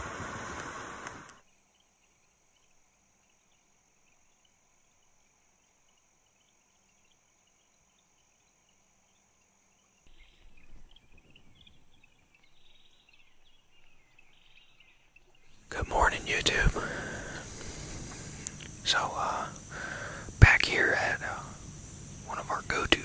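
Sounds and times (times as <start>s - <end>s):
insect chirps: 0.0s - 23.0s
insect chorus buzzing: 0.0s - 23.0s.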